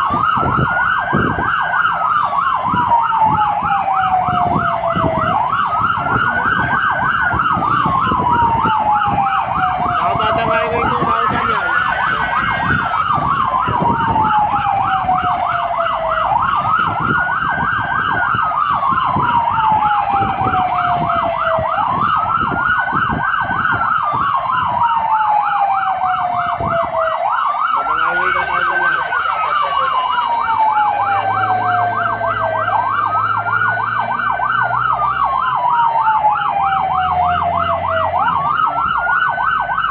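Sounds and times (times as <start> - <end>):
engine and road rumble: 0.0 - 39.9
siren wailing: 0.0 - 39.9
siren yelp: 0.0 - 39.9.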